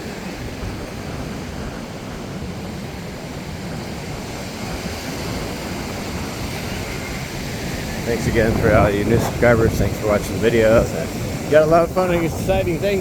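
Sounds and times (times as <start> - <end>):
ocean surf washing: 0.0 - 13.0
wind rumble on microphone: 0.0 - 13.0.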